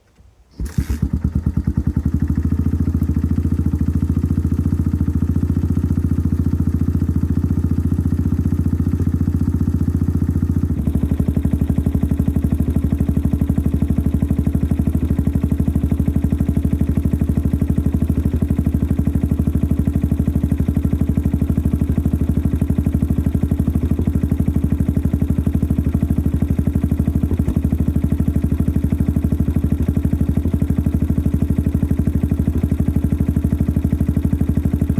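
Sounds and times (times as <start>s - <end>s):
motorcycle engine idling: 0.6s - 34.9s.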